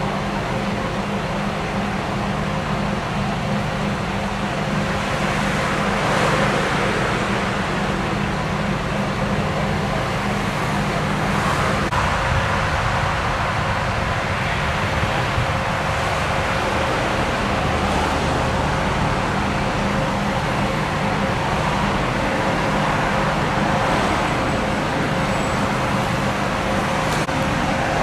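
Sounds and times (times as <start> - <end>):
cars passing: 0.0 - 28.0
vehicle engine humming: 0.0 - 28.0.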